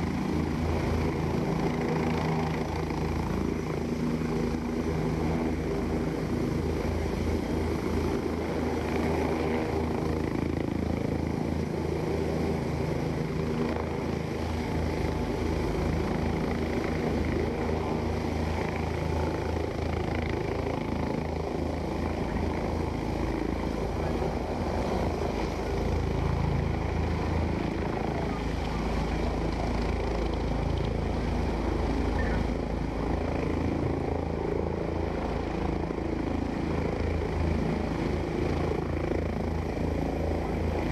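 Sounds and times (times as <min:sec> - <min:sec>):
helicopter engine running: 0:00.0 - 0:40.9
helicopter rotor beating: 0:00.0 - 0:40.9.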